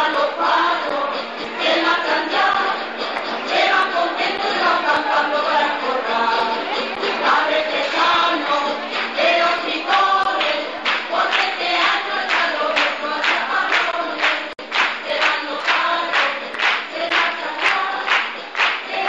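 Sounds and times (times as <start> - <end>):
chorus singing together: 0.0 - 19.0.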